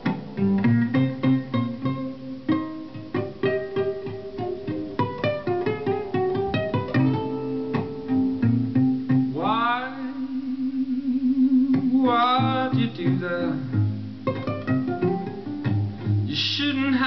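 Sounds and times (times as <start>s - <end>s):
plucked strings music: 0.0s - 17.0s.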